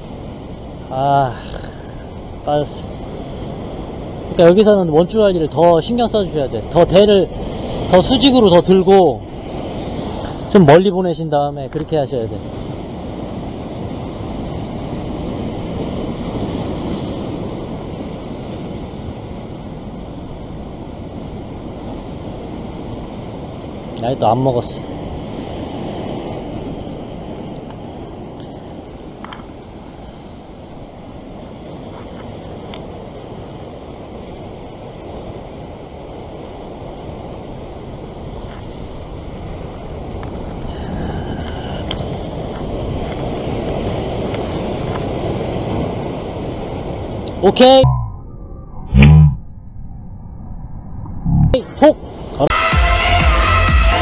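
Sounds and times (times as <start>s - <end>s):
ocean surf breaking over rocks: 0.0s - 48.1s.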